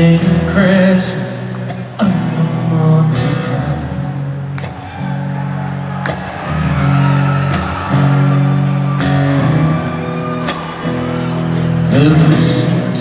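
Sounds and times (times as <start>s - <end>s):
electric guitar: 0.0s - 13.0s.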